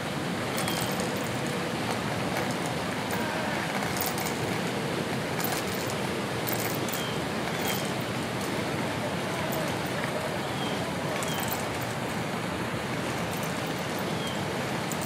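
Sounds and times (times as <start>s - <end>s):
even rushing wash: 0.0s - 15.0s.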